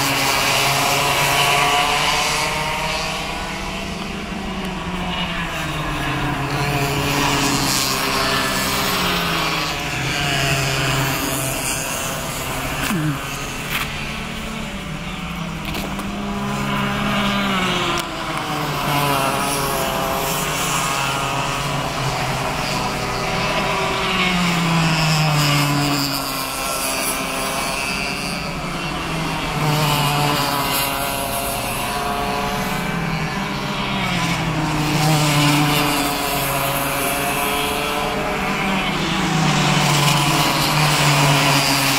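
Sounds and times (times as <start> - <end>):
kart engines buzzing: 0.0 - 41.9.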